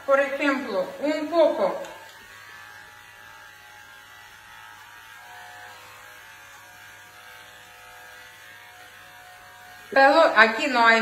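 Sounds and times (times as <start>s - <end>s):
electric clipper buzzing: 0.0s - 11.0s.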